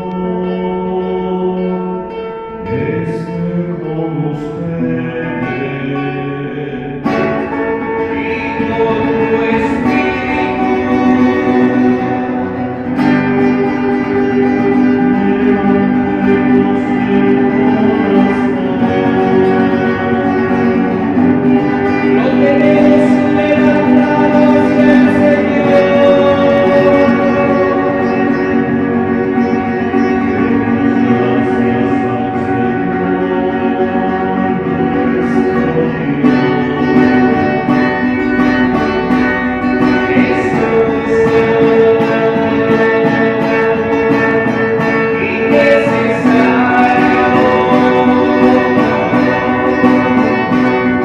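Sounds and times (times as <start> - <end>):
guitar accompaniment: 0.0 - 51.0
person singing: 0.0 - 51.0.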